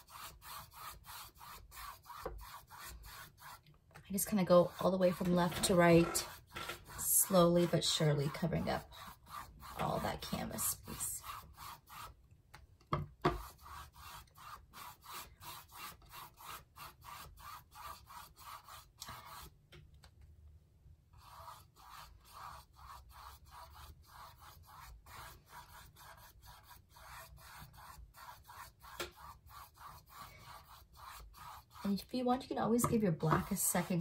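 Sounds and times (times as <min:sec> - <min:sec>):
paintbrush rubbing on canvas: 0:00.0 - 0:03.6, 0:04.2 - 0:12.2, 0:13.3 - 0:19.5, 0:21.2 - 0:34.0.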